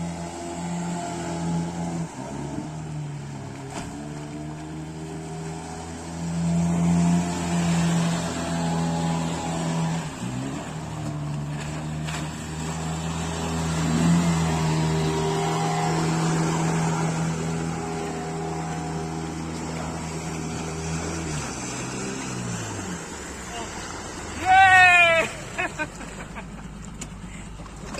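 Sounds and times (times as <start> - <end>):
motorboat engine running: 0.0 - 27.9
water noise: 0.0 - 27.9.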